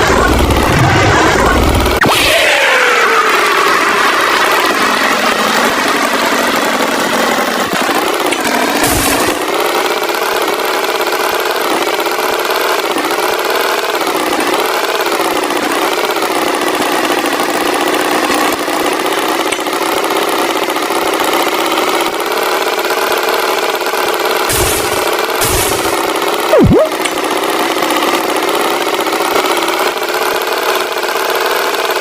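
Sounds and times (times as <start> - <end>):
tractor engine running: 0.0 - 2.0, 3.4 - 32.0.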